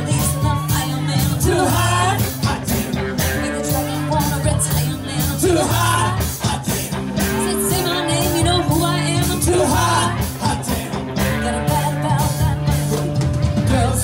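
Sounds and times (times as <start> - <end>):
electric guitar: 0.0 - 14.0
person singing: 0.0 - 14.0
steady drum beat: 0.0 - 14.0.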